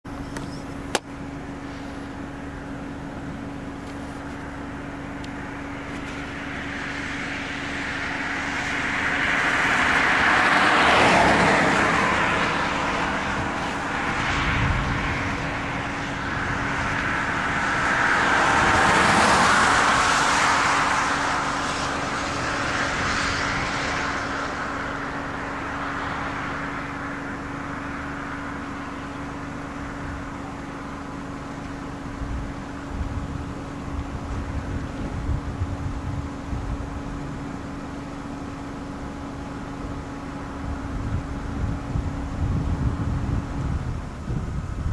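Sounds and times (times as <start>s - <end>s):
vehicles passing by: 0.0s - 44.9s
steady low hum: 0.1s - 44.9s.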